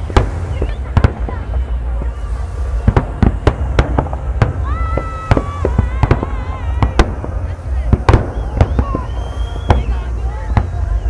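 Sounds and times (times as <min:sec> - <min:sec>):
fireworks sharp bangs: 0:00.0 - 0:11.0
low rumble: 0:00.0 - 0:11.0.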